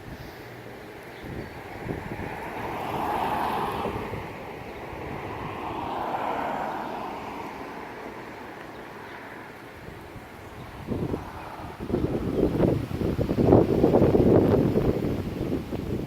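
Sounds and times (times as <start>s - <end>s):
wind gusts rushing through trees: 0.0s - 16.0s.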